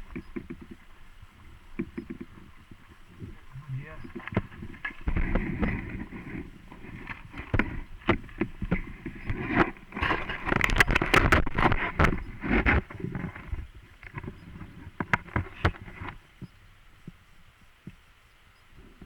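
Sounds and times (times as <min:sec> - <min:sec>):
bicycle rattling over rough ground: 0:00.0 - 0:16.5
wind rumbling on microphone: 0:00.0 - 0:19.0.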